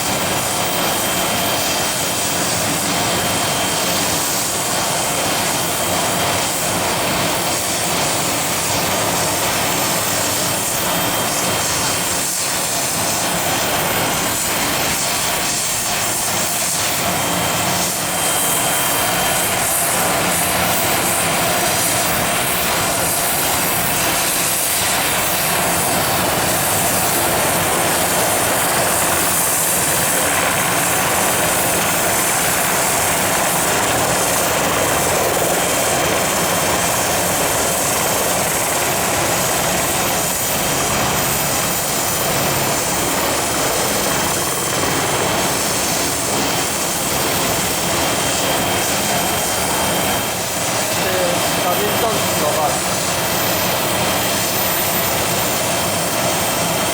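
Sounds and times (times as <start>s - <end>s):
aircraft engine rushing: 0.0s - 56.9s.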